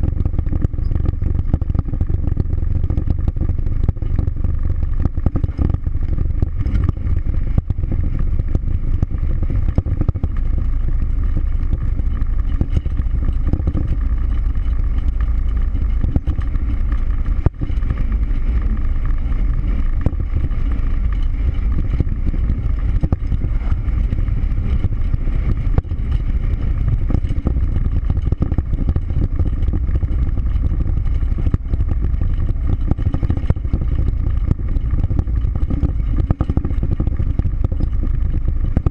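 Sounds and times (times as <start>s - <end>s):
car engine and tyre rumble: 0.0s - 38.9s
wind noise: 0.0s - 38.9s.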